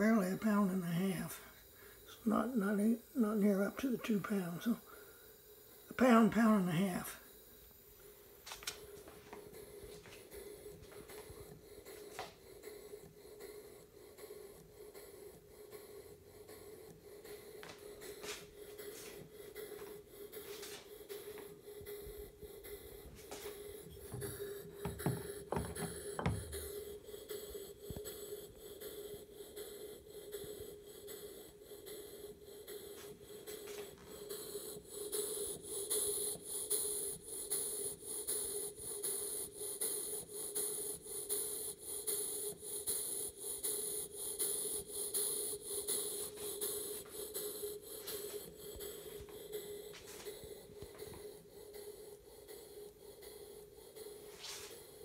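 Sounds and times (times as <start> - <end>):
air hissing: 0.0 - 55.0
steam engine exhaust puffing: 0.0 - 55.0.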